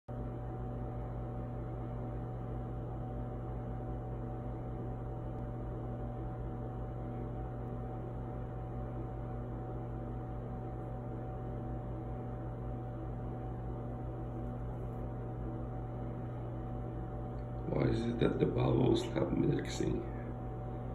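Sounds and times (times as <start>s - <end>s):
low hum: 0.1s - 20.9s.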